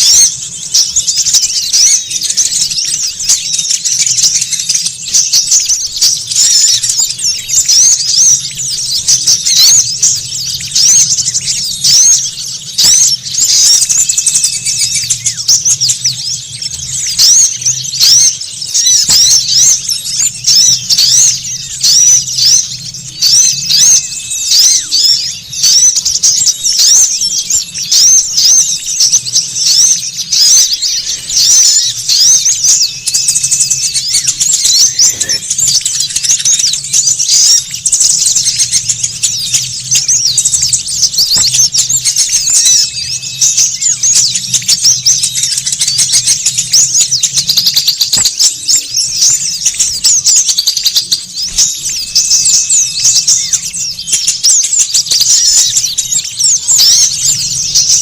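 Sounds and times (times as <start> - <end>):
songbirds twittering: 0.0 - 58.0.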